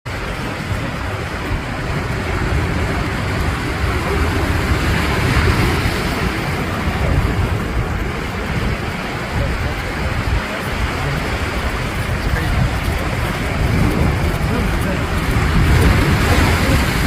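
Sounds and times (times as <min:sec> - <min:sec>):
ocean surf rushing: 0:00.0 - 0:17.0
wind buffeting microphone: 0:00.0 - 0:17.0.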